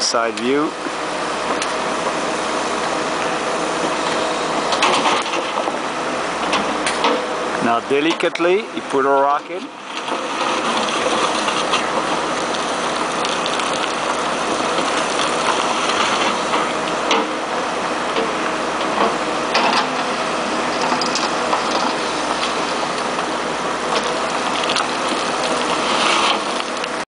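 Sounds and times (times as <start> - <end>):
diesel engine and hydraulics: 0.0 - 27.0.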